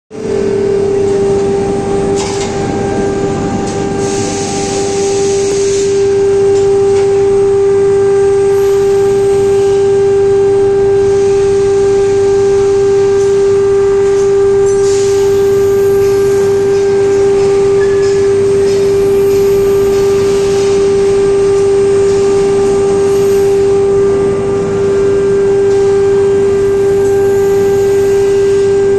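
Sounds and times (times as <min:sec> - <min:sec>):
induction furnace electrical hum: 0:00.1 - 0:28.9.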